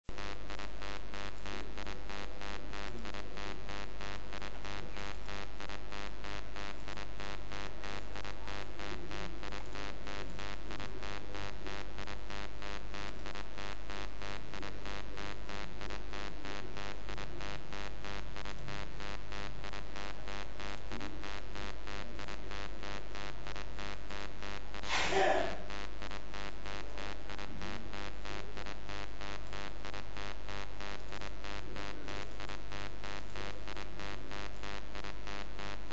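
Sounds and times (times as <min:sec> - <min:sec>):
pulsing electrical buzz: 0:00.1 - 0:35.9.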